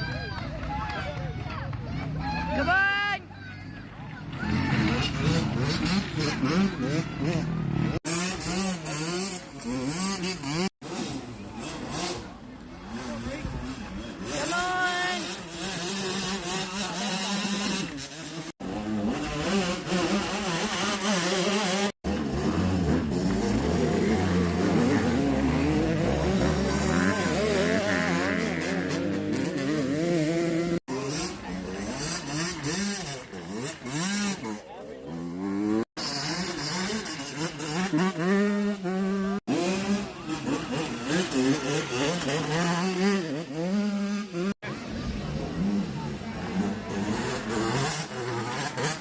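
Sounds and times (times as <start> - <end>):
dirt bike engines revving: 0.0 - 49.0.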